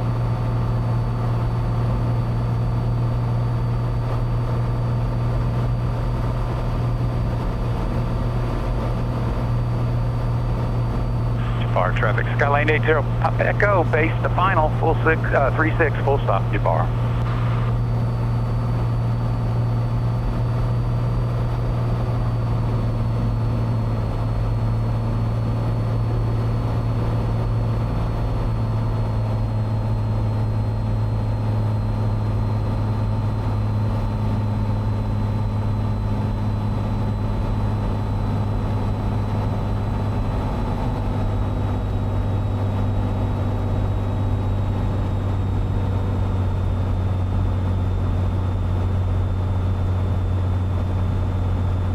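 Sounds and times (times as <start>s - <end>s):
airplane engine and propeller droning: 0.0s - 51.9s.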